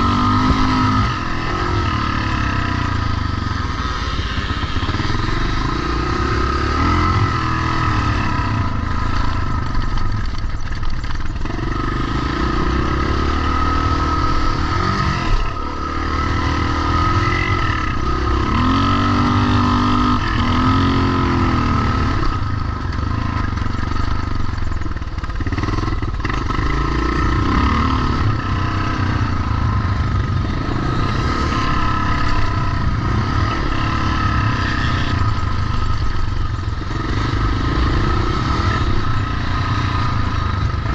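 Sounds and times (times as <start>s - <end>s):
motocross motorcycle engines revving: 0.0s - 40.9s.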